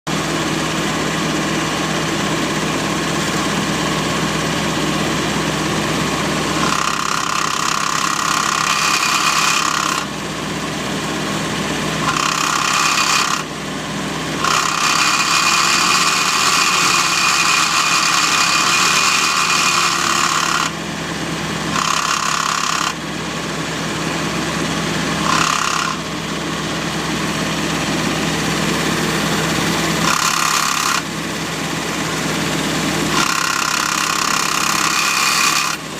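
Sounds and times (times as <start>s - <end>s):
clutch rasping whine: 0.1s - 35.9s
engine idling: 0.1s - 35.9s.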